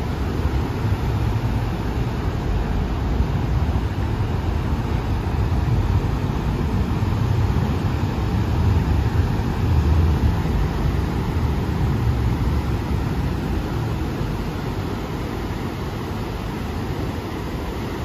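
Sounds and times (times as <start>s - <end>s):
ocean surf rumbling: 0.0s - 18.0s.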